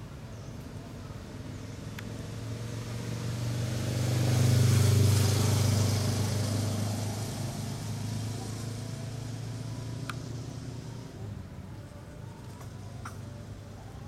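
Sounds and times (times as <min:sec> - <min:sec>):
passing vehicle engine hum: 0:00.0 - 0:14.0.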